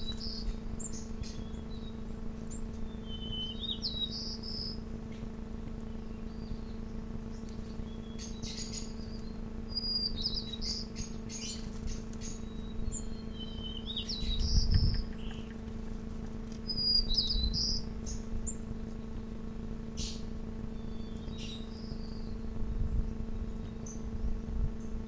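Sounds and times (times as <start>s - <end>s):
low hum: 0.0s - 25.0s
small birds chirping: 0.0s - 25.0s.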